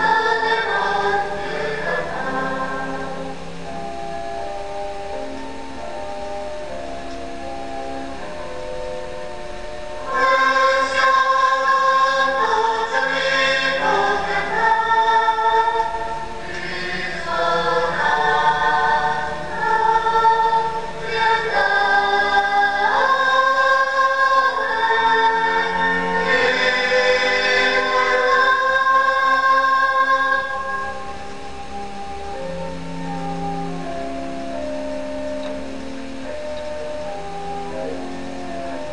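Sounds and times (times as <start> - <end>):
choir singing sustained chords: 0.0 - 38.9.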